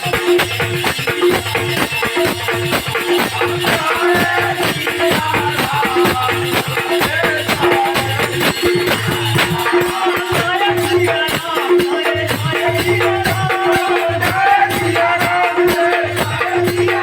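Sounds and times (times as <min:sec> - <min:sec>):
shaken rattle percussion: 0:00.0 - 0:17.0.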